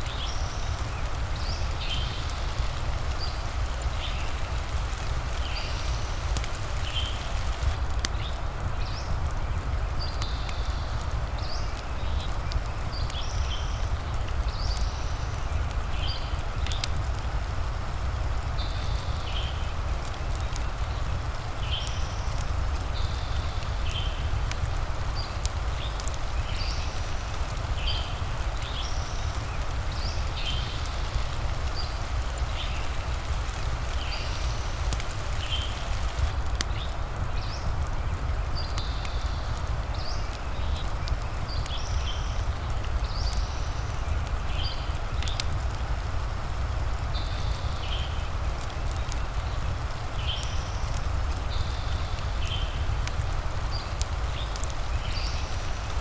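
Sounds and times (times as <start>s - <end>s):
fire crackling: 0.0s - 56.0s
rain: 0.0s - 56.0s.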